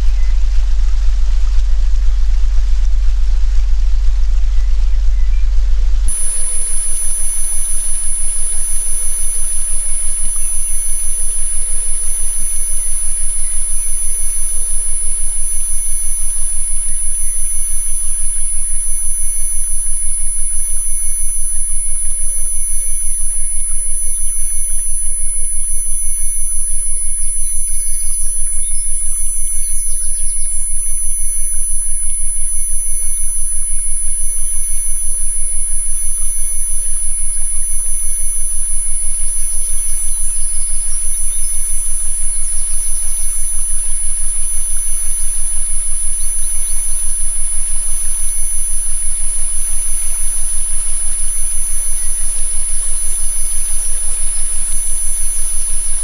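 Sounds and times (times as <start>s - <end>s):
low pulsing hum: 0.0s - 56.0s
high whistle-like tones: 4.5s - 56.0s.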